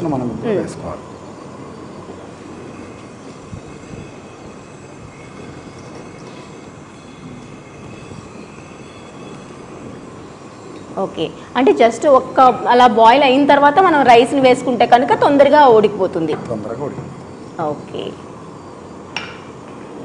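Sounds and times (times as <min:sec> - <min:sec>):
pot bubbling on a gas burner: 0:00.0 - 0:20.0.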